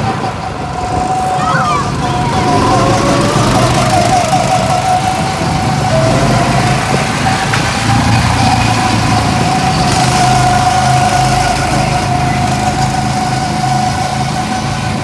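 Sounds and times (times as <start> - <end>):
go-kart engines running: 0.0 - 15.0
high whine: 0.0 - 15.0.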